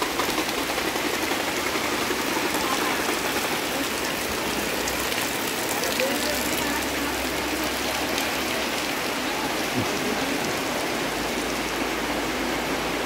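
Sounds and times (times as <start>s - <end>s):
rain on pavement and canopies: 0.0s - 13.0s.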